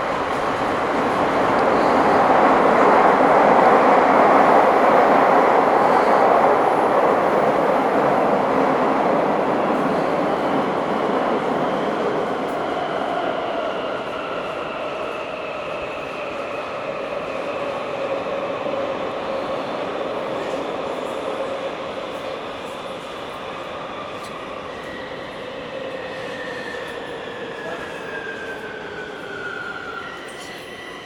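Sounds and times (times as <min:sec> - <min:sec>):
train wheels rumbling in tunnel: 0:00.0 - 0:31.0.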